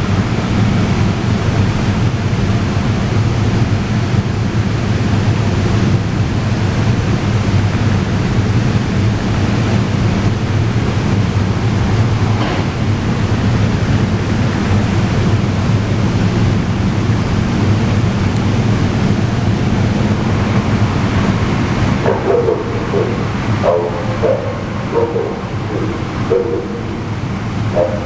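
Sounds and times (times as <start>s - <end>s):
electric train rumbling: 0.0s - 28.0s.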